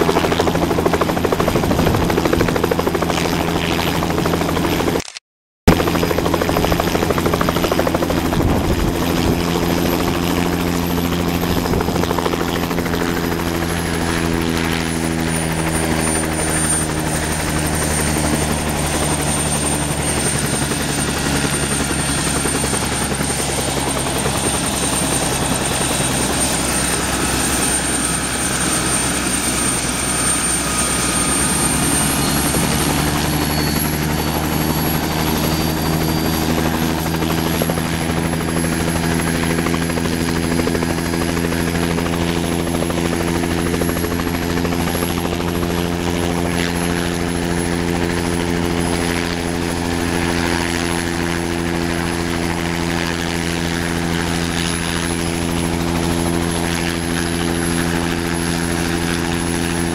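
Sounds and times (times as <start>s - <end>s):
helicopter rotor turning: 0.0s - 59.9s
turbine engine whine: 5.7s - 59.9s.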